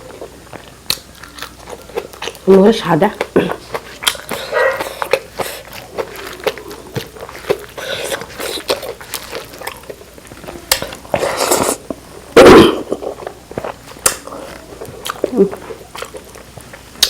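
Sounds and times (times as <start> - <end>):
wet chewing and smacking: 0.0 - 17.0.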